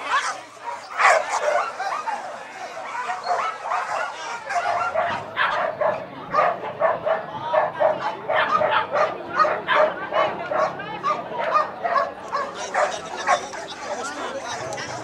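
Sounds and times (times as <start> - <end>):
dog barking and yelping: 0.1 - 13.6.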